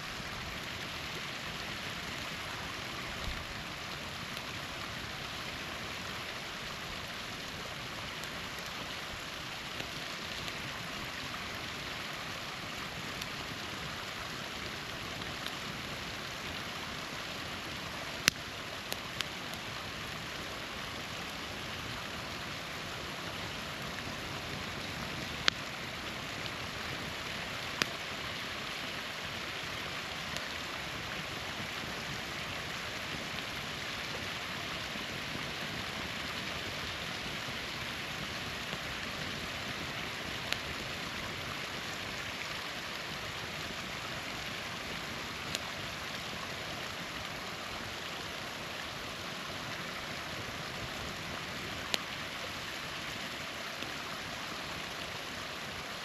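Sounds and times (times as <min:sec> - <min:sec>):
campfire crackling and popping: 0:00.0 - 0:56.0
small waterfall running: 0:00.0 - 0:56.0.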